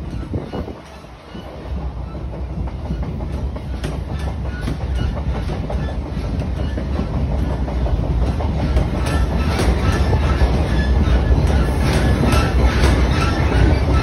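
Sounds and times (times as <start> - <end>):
train rumble inside coach: 0.0 - 14.0
wheels clicking on rails: 0.0 - 14.0.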